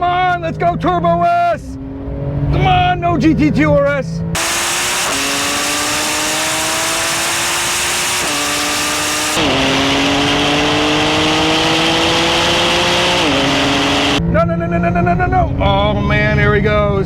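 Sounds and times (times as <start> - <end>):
car engine accelerating: 0.0 - 17.0
wind and road noise: 0.0 - 17.0.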